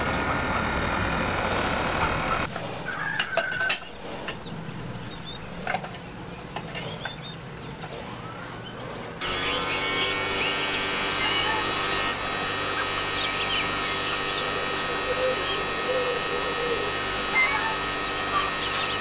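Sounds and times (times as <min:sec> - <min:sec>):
motor humming: 0:00.0 - 0:05.8, 0:09.2 - 0:19.0.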